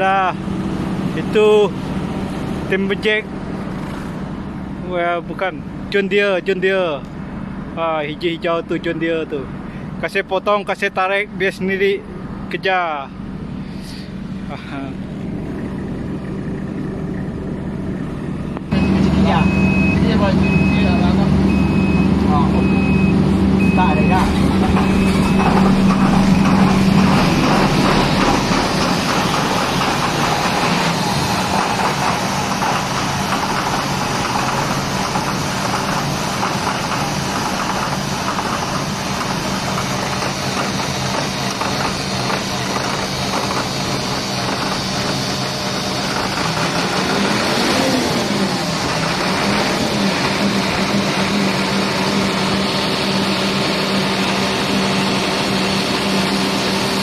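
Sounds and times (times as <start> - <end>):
diesel generator engine running: 0.0 - 57.0.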